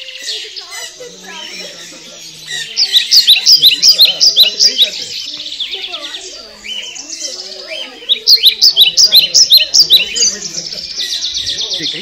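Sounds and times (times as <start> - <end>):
parrots shrill calls: 0.0 - 10.4
soft bird calling: 0.0 - 12.0.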